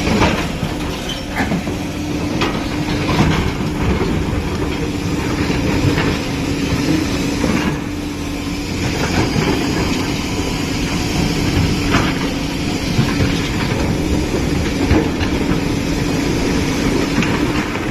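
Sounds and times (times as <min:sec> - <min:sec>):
machine knocks and clatters: 0:00.0 - 0:08.0, 0:11.0 - 0:17.9
diesel engine running: 0:00.0 - 0:17.9.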